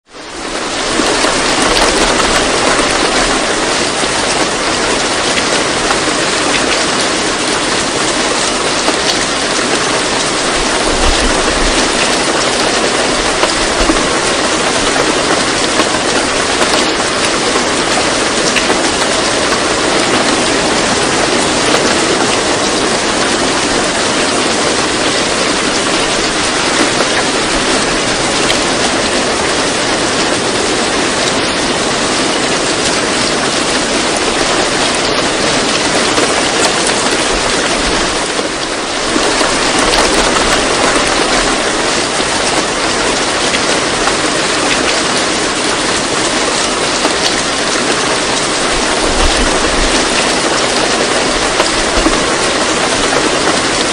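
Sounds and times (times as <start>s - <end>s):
steady dense rain: 0.0s - 53.9s.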